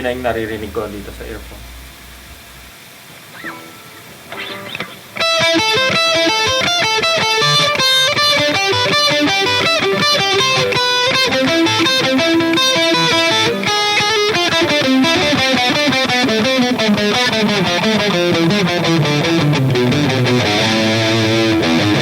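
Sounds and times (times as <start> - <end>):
electric guitar picked notes: 0.0 - 22.0.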